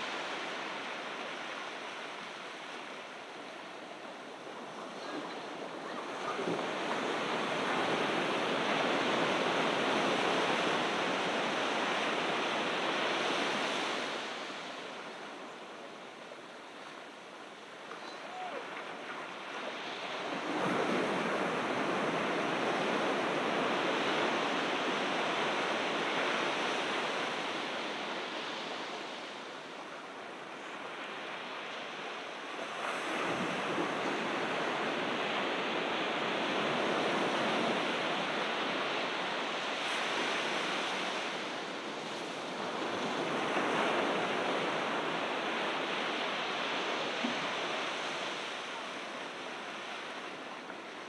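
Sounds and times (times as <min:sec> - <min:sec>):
ocean surf breaking: 0:00.0 - 0:15.6, 0:16.3 - 0:51.0.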